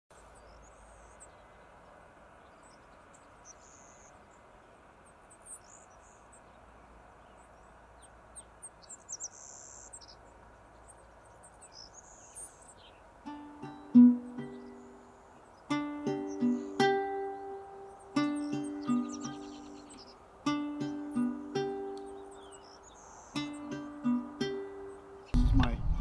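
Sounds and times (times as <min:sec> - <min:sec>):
small birds chirping: 0:00.1 - 0:25.8
faint outdoor hiss: 0:00.1 - 0:26.0.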